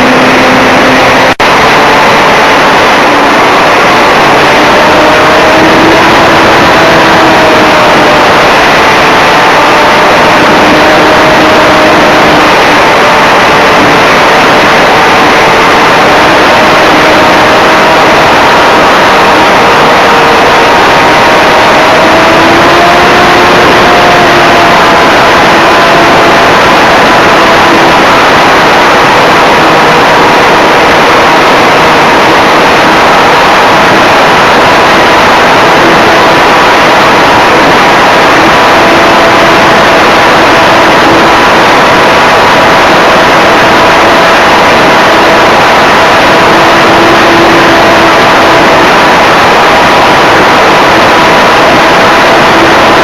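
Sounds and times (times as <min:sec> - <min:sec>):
electric motor whining: 0:00.0 - 0:53.0
rush of air noise: 0:00.0 - 0:53.0.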